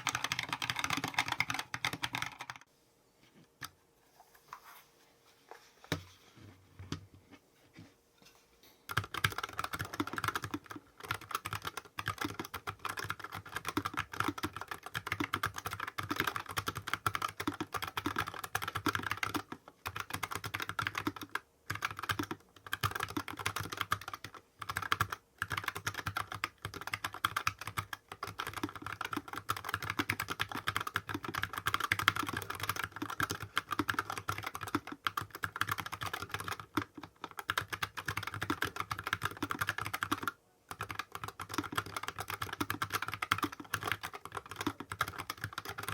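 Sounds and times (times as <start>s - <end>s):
mechanical keyboard typing: 0.0s - 2.7s, 8.9s - 45.9s.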